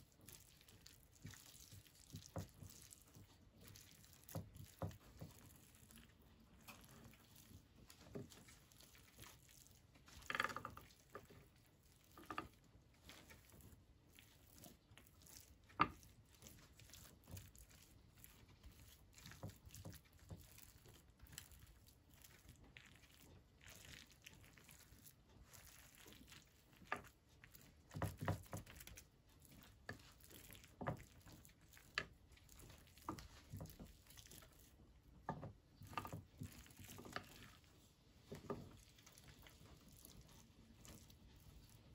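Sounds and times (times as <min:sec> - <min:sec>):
food preparation pats and squishes: 0:00.0 - 0:41.9.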